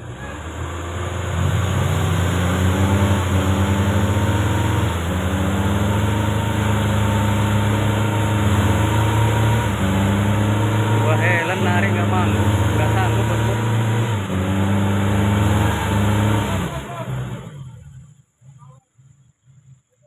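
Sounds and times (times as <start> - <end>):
off-road vehicle engine straining: 0.0 - 20.0.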